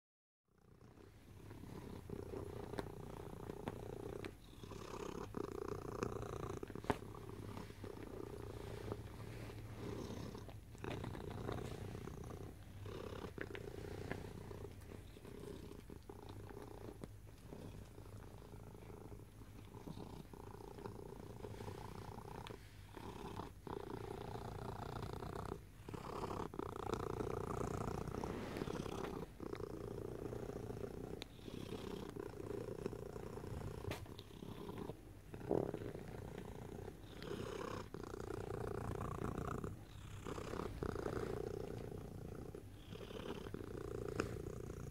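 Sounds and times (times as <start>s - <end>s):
cat snoring: 0.6s - 44.9s.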